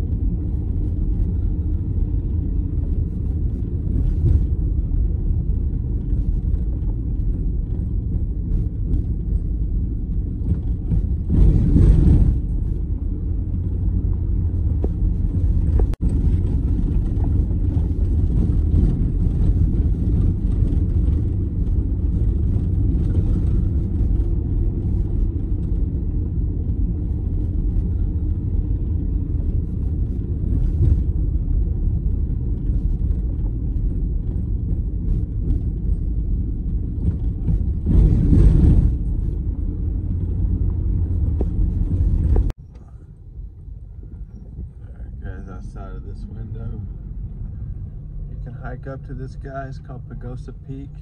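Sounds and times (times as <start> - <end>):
vehicle driving on gravel: 0.0 - 43.0, 44.0 - 51.0.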